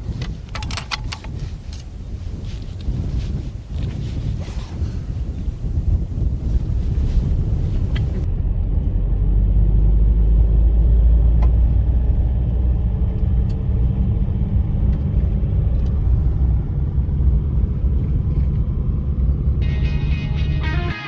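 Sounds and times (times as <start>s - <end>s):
vehicle rumbling in motion: 0.0s - 20.8s.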